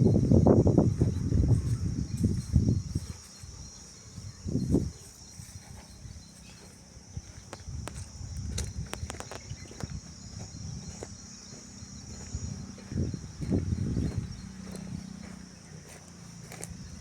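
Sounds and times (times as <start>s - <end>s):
insects droning: 0.0s - 17.0s
footsteps crunching on ground: 0.6s - 17.0s.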